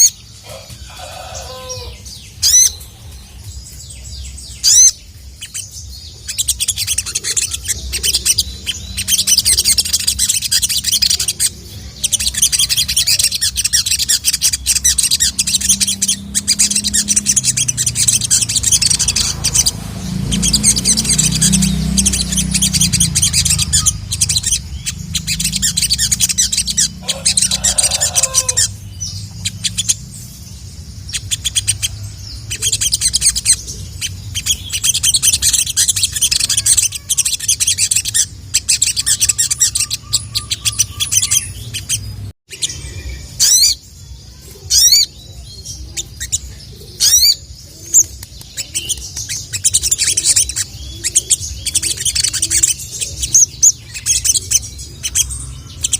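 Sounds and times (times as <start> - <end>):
sunbird chattering chirps: 0.0 - 55.9.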